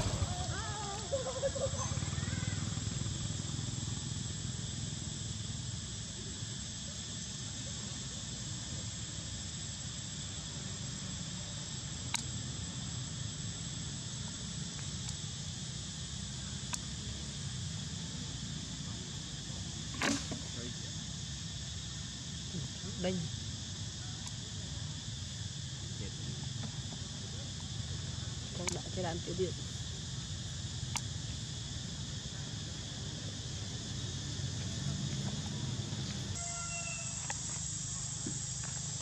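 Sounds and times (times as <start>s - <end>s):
insects buzzing: 0.0s - 39.0s.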